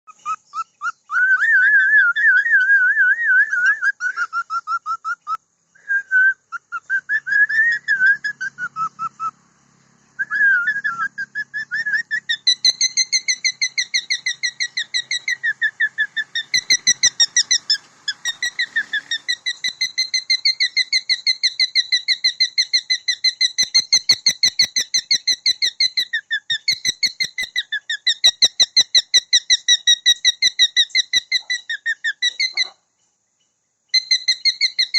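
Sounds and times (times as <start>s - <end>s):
cockatiel whistling: 0.2s - 9.4s, 10.2s - 32.7s, 34.0s - 34.9s.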